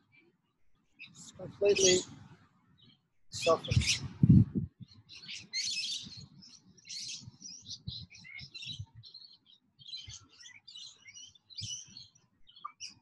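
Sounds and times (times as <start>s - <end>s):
birds chirping: 0.9s - 13.0s.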